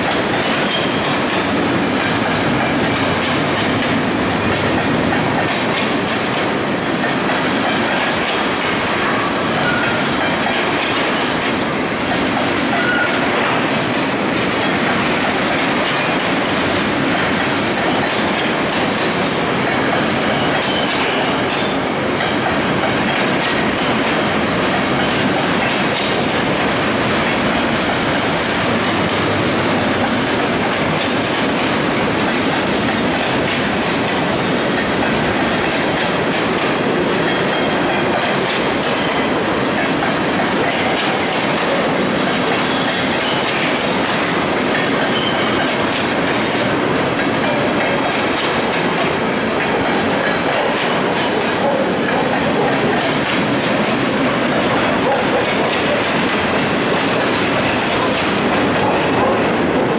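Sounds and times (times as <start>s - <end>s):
train wheels rumbling on rail: 0.0s - 59.9s
wheels clacking over rail joints: 0.0s - 59.9s.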